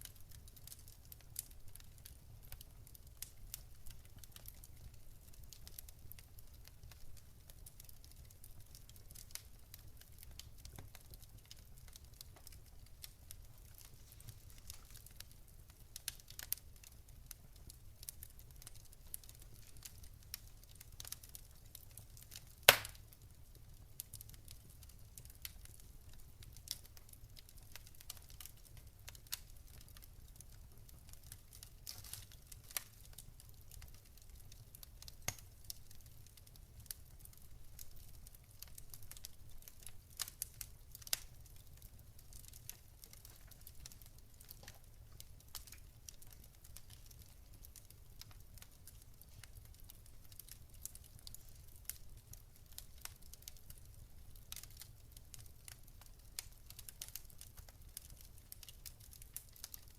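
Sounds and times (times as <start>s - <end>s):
fire crackling with pops: 0.0s - 59.9s.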